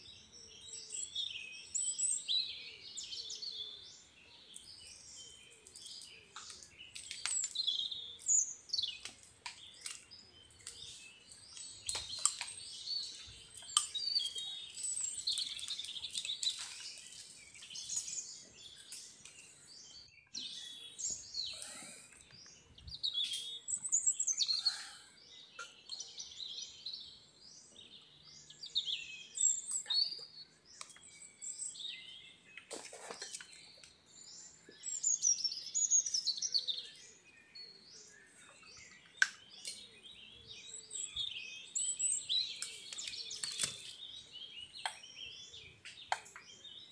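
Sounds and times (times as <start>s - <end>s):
birds chirping and trilling: 0.0s - 46.9s.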